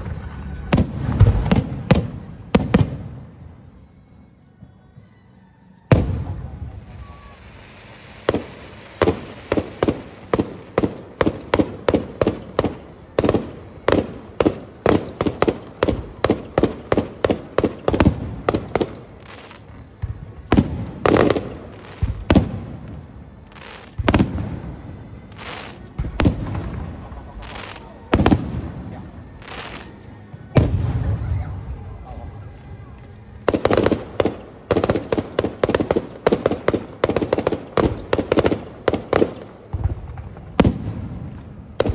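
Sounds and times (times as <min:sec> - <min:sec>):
fireworks bursting: 0:00.0 - 0:03.8, 0:05.9 - 0:41.9.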